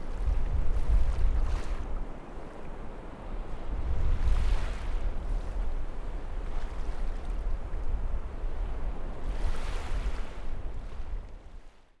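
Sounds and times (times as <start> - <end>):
wind buffeting microphone: 0.0 - 2.2, 3.0 - 11.5.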